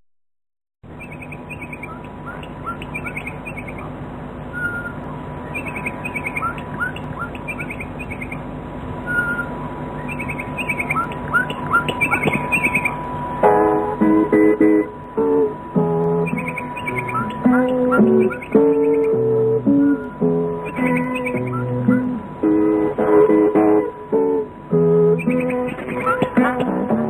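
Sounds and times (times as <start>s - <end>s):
recorded bird call chirps: 0.9s - 13.1s, 16.0s - 26.6s
thin steady whistle: 1.0s - 3.9s, 4.5s - 8.4s, 9.0s - 26.3s
radio hiss and hum: 1.7s - 27.0s.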